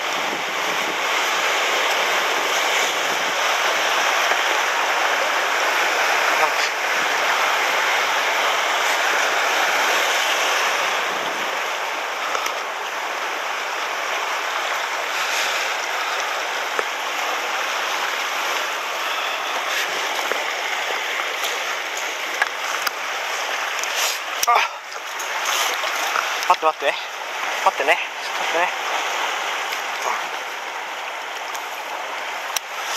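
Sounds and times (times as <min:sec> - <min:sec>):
surf washing over rocks: 0:00.0 - 0:32.9.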